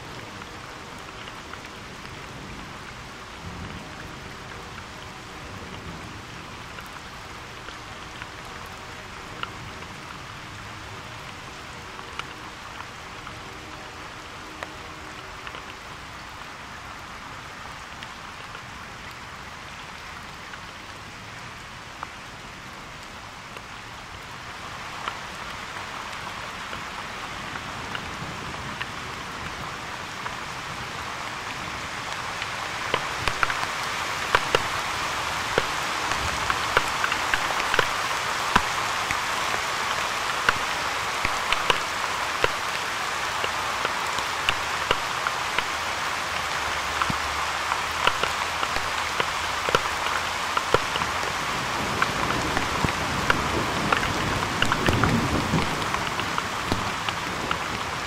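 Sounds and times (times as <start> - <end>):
heavy rain falling: 0.0 - 58.0
raindrops ticking close by: 0.0 - 58.0.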